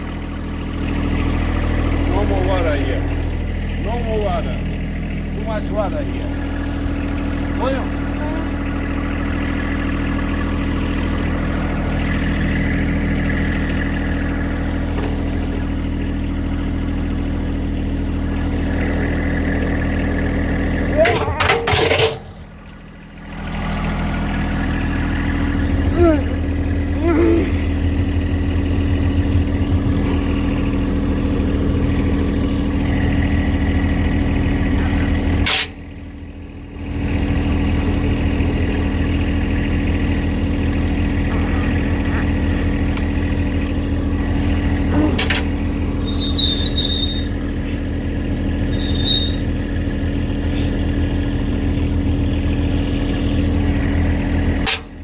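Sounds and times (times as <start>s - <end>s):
steady machine hum: 0.0s - 48.7s.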